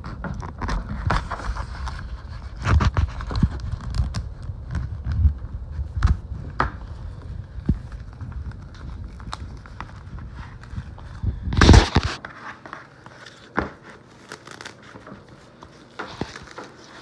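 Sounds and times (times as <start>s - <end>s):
cellophane crinkling: 0.0s - 17.0s.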